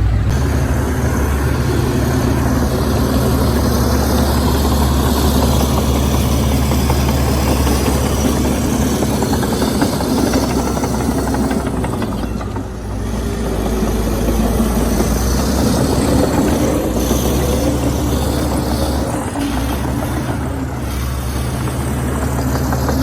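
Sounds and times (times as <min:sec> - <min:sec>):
bulldozer diesel engine running: 0:00.0 - 0:23.0
rattling clatter: 0:00.0 - 0:23.0.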